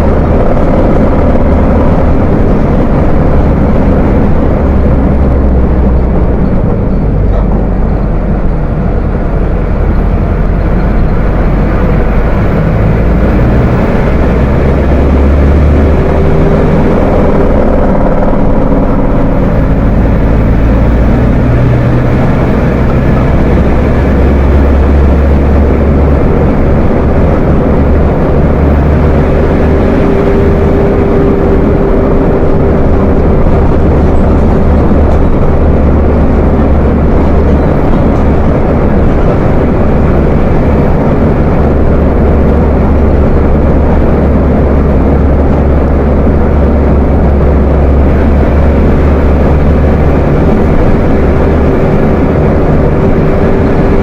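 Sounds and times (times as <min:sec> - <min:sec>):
diesel bus engine growling: 0:00.0 - 0:54.0
faint whine: 0:00.0 - 0:54.0.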